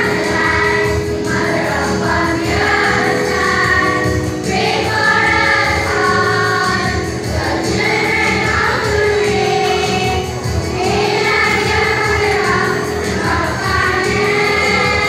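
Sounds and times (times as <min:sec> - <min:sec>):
children's choir singing: 0:00.0 - 0:15.0
musical accompaniment: 0:00.0 - 0:15.0.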